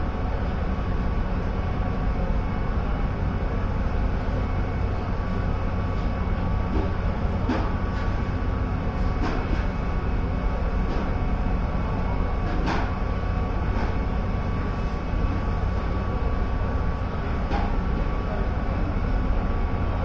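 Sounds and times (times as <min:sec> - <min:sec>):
ship engine low drone: 0:00.0 - 0:20.0
thin steady whine: 0:00.0 - 0:20.0.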